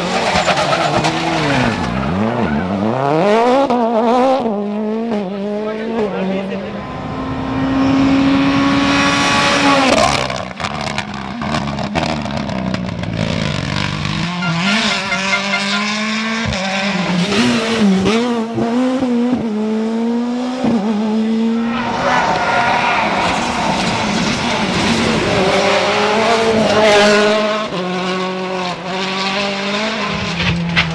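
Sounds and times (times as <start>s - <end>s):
rally car engines at high revs: 0.0s - 30.9s.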